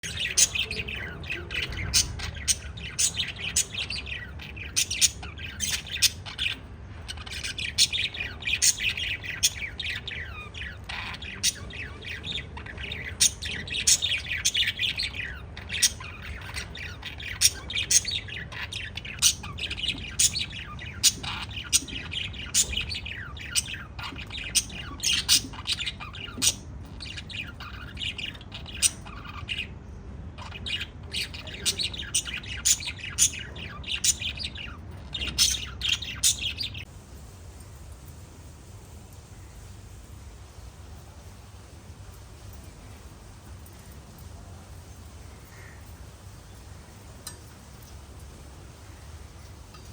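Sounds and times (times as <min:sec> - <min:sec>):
parrots chirping and squawking: 0:00.0 - 0:49.9.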